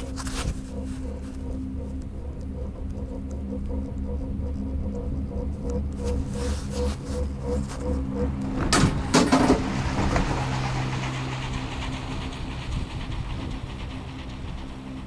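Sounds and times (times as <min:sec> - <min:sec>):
gondola cabin rumbling along cable: 0:00.0 - 0:15.0
low hum: 0:00.0 - 0:15.0.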